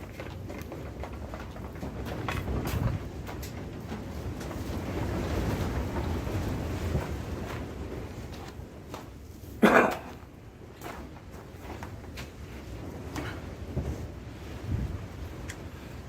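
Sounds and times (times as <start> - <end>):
wind rumbling against microphone: 0.0 - 16.0.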